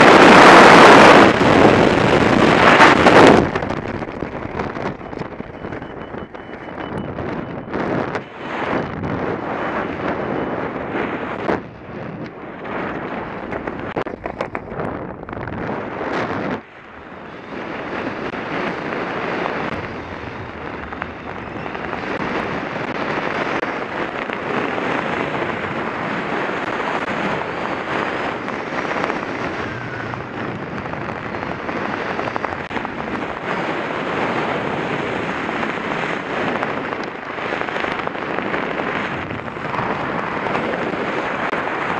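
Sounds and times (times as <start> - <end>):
wind roaring over microphone: 0.0 - 41.9.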